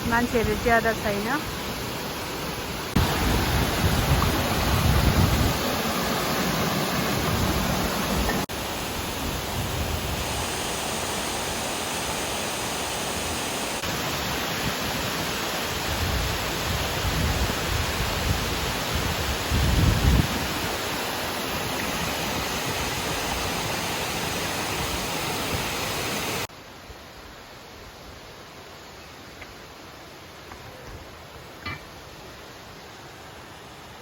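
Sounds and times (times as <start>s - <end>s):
small waterfall rushing: 0.0s - 34.0s.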